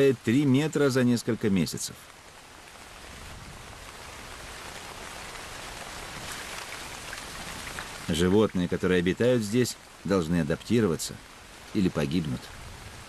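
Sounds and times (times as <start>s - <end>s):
heavy rain on foliage: 0.0s - 13.0s.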